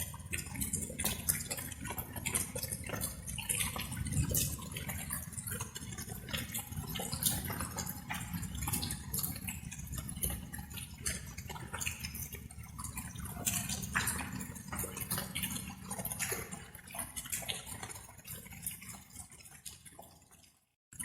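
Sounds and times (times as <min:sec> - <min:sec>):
rain drops dripping: 0:00.0 - 0:21.0.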